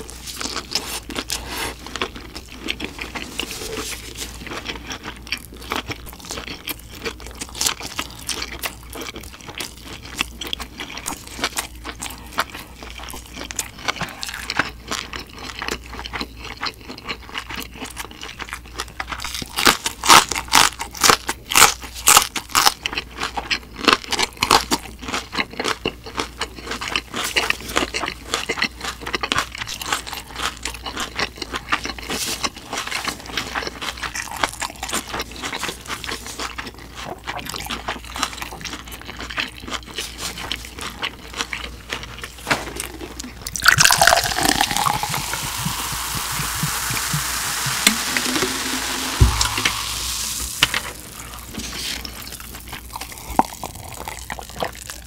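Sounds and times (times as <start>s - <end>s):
chewing food: 0.0s - 55.0s
crisp crunching of chili pepper: 0.0s - 55.0s.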